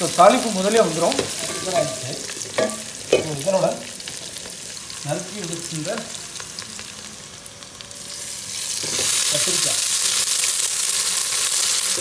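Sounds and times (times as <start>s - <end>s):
food sizzling in hot fat: 0.0s - 12.0s.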